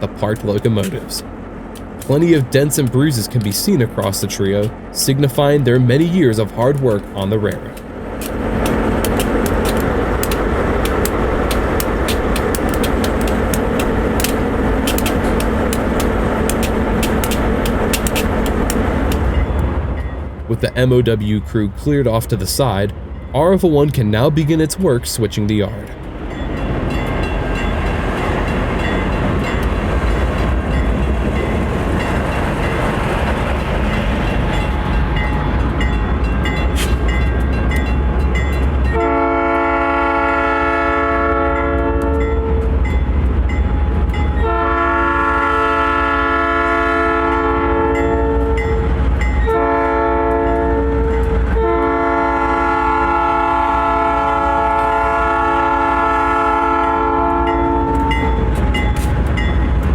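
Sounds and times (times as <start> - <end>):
diesel locomotive rumble: 0.0 - 59.9.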